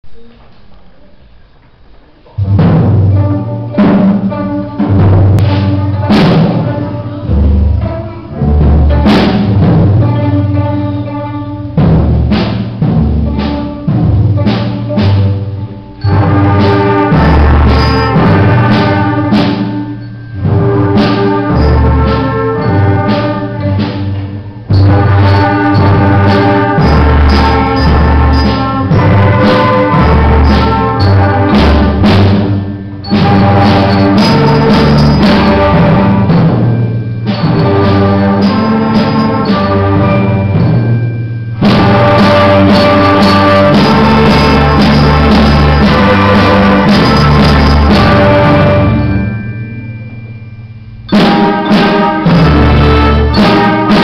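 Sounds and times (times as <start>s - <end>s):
orchestra playing: 2.2s - 54.0s.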